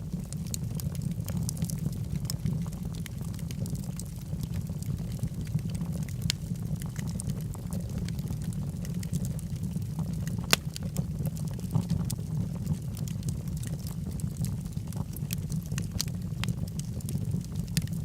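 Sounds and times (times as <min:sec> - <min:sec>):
fire flames rumbling: 0:00.0 - 0:18.0
logs crackling and popping: 0:00.0 - 0:18.0.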